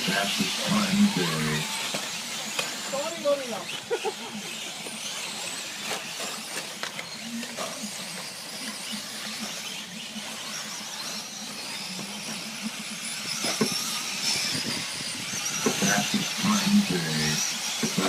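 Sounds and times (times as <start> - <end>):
rc truck motors whining: 0.0 - 18.0.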